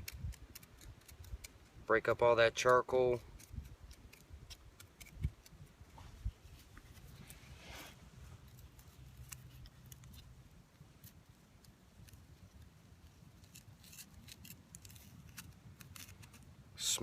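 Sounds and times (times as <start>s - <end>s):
charcoal clicking and crunching: 0.0s - 5.9s, 8.4s - 16.9s.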